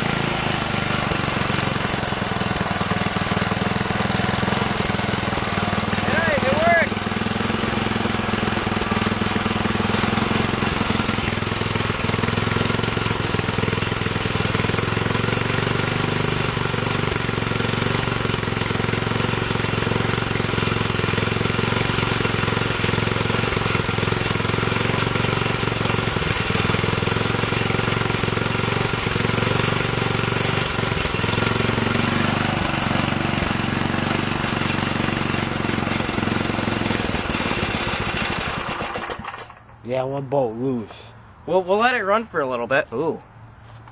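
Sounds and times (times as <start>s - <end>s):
small engine running steadily: 0.0s - 39.9s, 40.7s - 43.9s.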